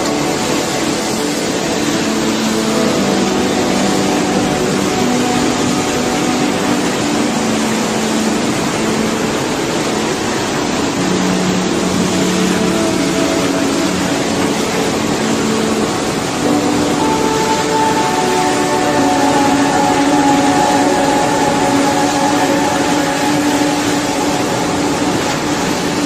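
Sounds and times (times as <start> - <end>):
roar of rushing water: 0.0 - 26.0.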